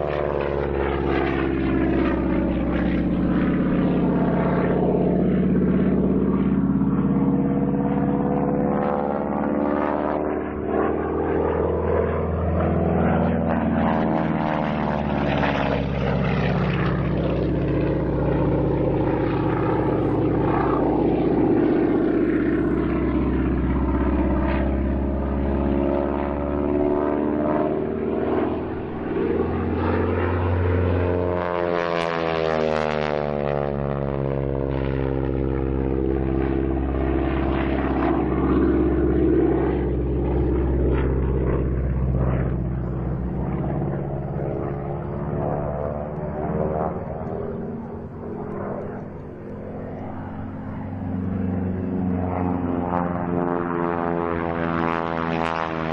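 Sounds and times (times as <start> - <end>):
propeller plane flying past: 0.0 - 55.9.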